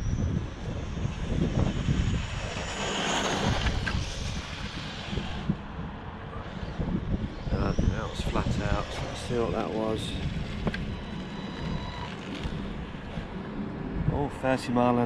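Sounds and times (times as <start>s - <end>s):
wind buffeting microphone: 0.0s - 15.0s
toy car electric motor whining: 0.1s - 5.5s, 6.5s - 13.4s.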